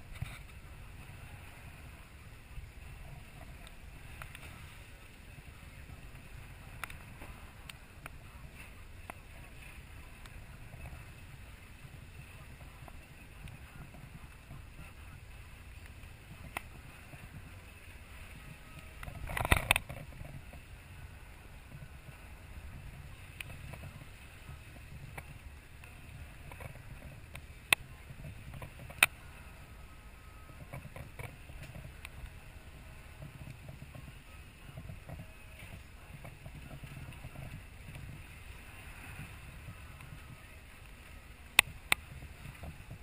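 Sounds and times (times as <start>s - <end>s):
boat engine idling: 0.0s - 43.0s.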